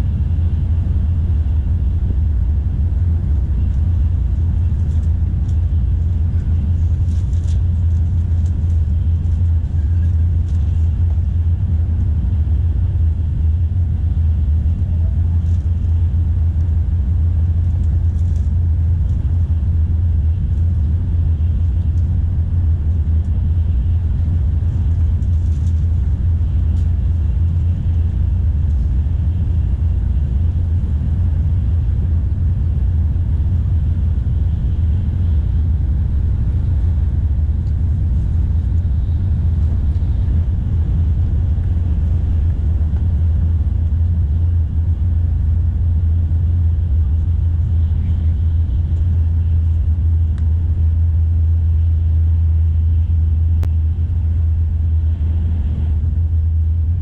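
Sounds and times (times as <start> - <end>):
train rumble from inside: 0.0 - 57.0.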